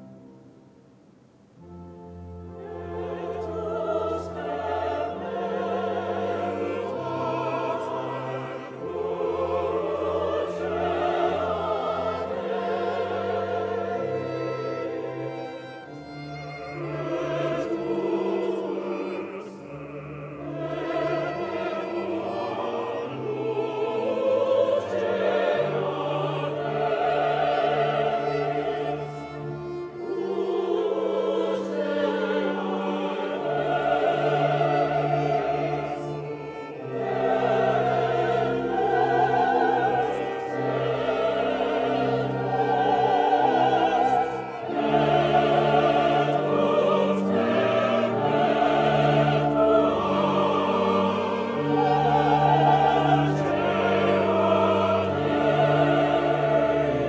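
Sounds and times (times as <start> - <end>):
viola: 0.0 - 57.0
pipe organ: 1.6 - 57.0
mixed choir singing: 2.4 - 57.0.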